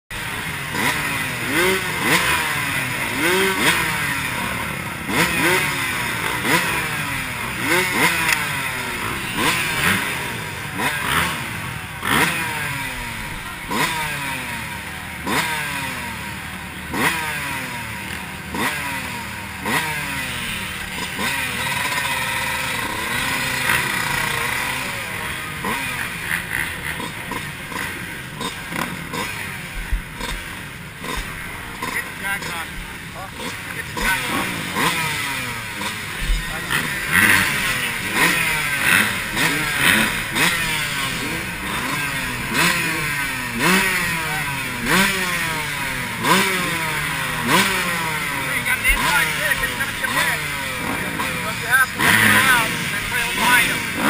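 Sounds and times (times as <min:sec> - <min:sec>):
dirt bike engines revving: 0:00.1 - 0:54.0.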